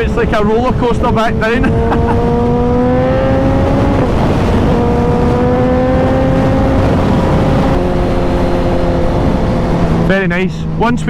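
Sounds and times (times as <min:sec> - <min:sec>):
motorcycle engine under throttle: 0:00.0 - 0:11.0
wind rush on microphone: 0:00.0 - 0:11.0.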